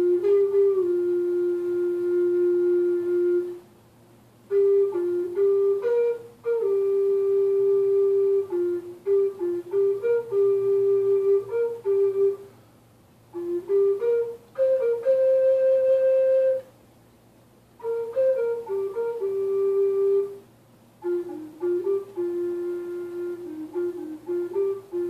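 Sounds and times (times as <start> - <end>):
flute playing slow melody: 0.0 - 3.7, 4.5 - 12.6, 13.3 - 16.7, 17.8 - 25.0.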